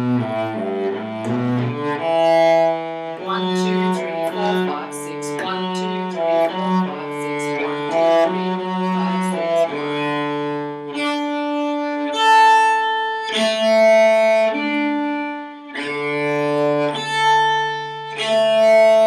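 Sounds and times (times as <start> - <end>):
solo cello bowed: 0.0 - 19.0.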